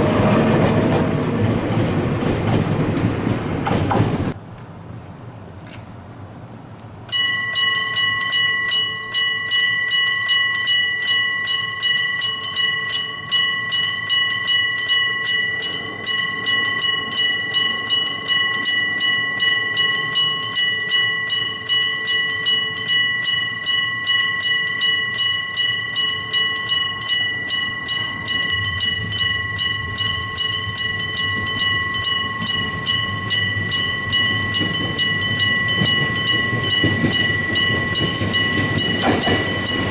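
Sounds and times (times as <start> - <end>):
train rumbling: 0.0 - 5.6, 12.6 - 39.9
level crossing bell ringing: 7.1 - 39.9.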